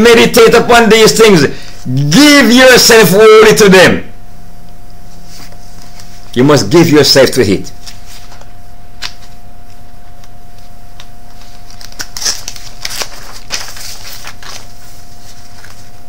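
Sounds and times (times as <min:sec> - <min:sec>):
electrical hum with whine: 0:00.0 - 0:16.0.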